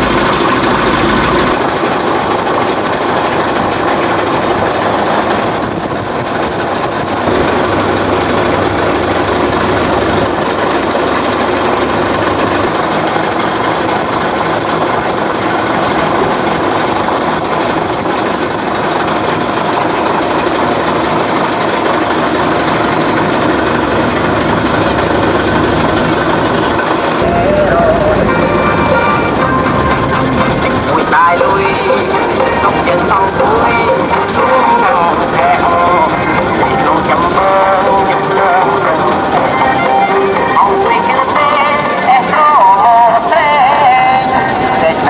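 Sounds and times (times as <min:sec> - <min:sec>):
boat engine running: 0:00.0 - 0:45.0.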